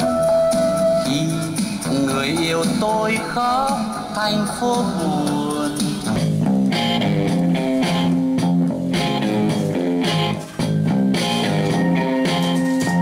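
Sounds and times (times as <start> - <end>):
guitar music through small speaker: 0.0 - 13.0.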